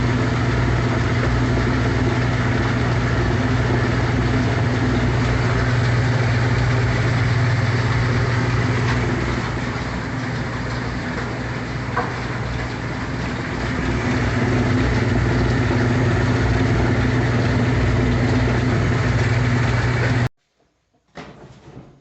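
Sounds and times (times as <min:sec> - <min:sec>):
washing machine motor humming: 0:00.0 - 0:20.3.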